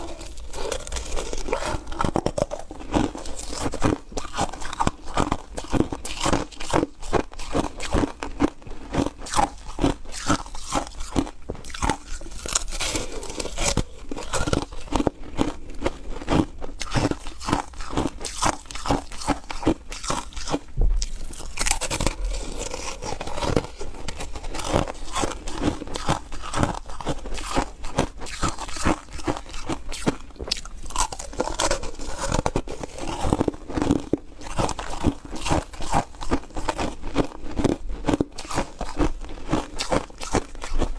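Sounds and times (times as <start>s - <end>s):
person chewing crunchy ice: 0.0s - 40.9s.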